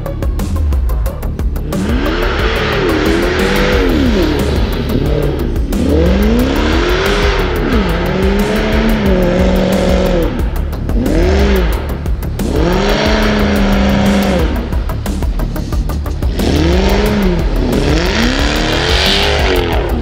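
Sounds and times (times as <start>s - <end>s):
car engine revving: 0.0s - 20.0s
wheels spinning on snow: 1.7s - 20.0s.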